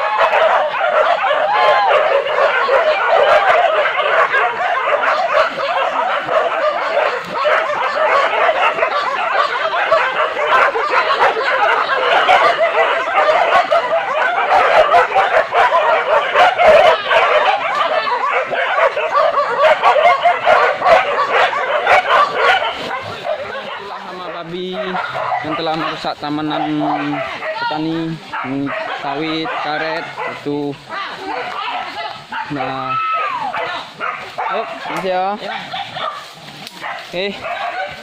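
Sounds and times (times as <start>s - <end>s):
dogs barking and yelping: 0.0s - 38.0s.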